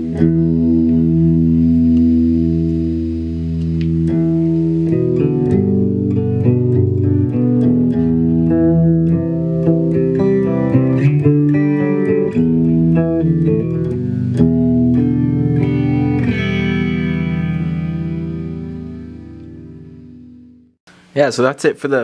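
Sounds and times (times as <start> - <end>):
electric guitar with chorus effect: 0.0 - 20.8.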